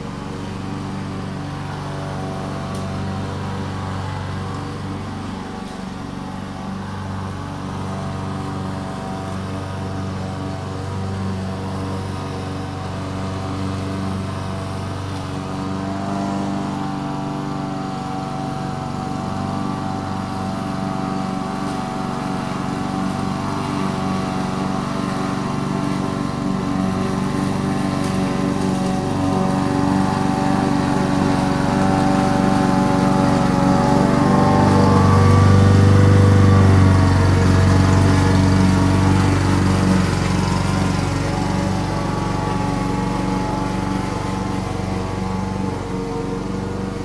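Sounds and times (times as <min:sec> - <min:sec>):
lawn mower engine cutting grass: 0:00.0 - 0:47.0.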